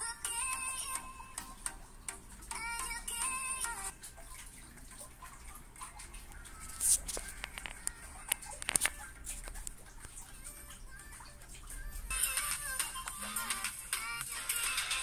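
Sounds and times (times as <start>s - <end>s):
quiet music from headphones: 0.0s - 15.0s.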